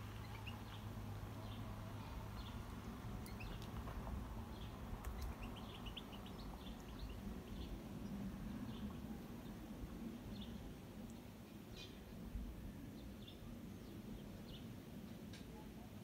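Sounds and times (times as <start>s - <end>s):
small birds chirping: 0.0s - 14.8s
steady low rumble: 0.0s - 15.3s.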